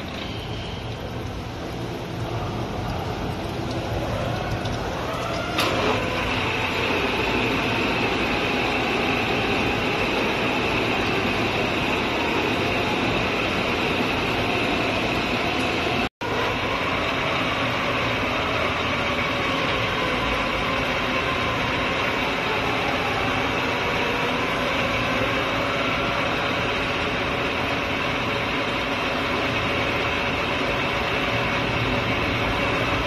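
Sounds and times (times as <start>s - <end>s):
metal lathe running with high whine: 0.0s - 33.0s.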